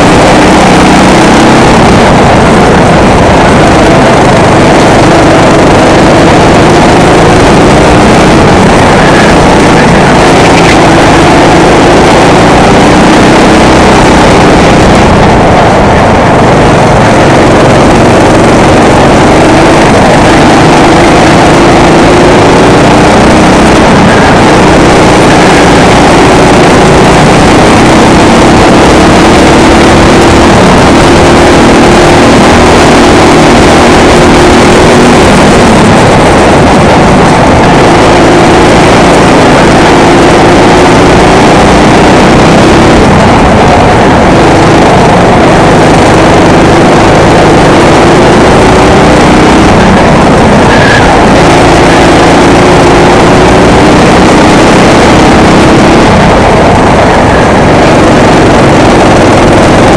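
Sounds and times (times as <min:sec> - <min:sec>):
kart engine running hard: 0:00.0 - 0:59.9
wind rushing over microphone: 0:00.0 - 0:59.9.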